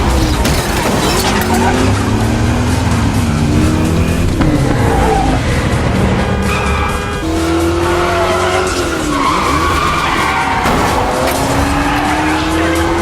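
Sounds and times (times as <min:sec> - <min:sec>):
car engine revving hard: 0:00.0 - 0:13.0
tyres squealing and skidding: 0:00.0 - 0:13.0.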